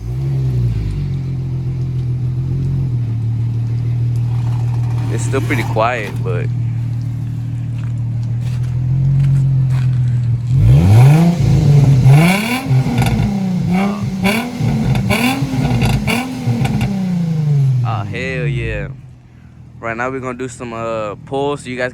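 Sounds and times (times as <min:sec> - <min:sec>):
car exhaust idling and revving: 0:00.0 - 0:21.9.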